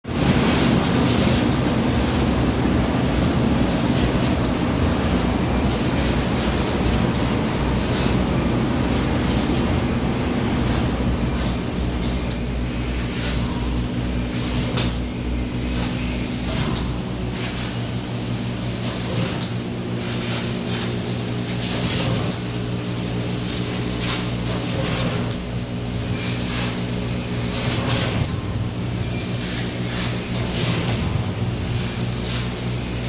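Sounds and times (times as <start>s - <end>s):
laser cutting machine hum: 0.1s - 33.0s.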